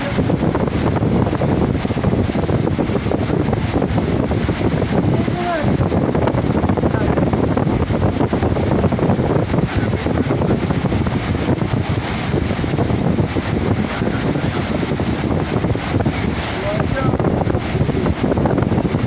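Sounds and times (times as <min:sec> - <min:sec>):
rushing water: 0:00.0 - 0:19.0
wind buffeting microphone: 0:00.0 - 0:19.0.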